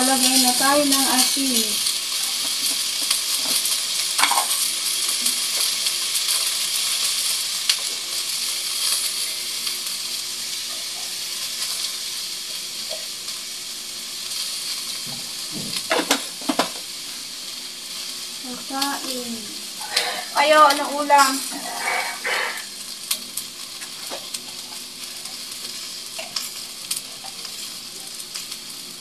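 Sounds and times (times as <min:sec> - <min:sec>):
mussels sizzling in a pot: 0:00.0 - 0:29.0.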